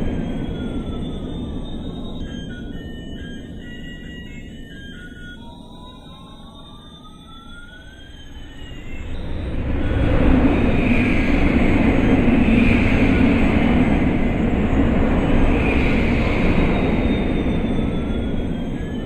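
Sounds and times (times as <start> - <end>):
jet engine roar: 0.0 - 4.9, 7.8 - 19.0.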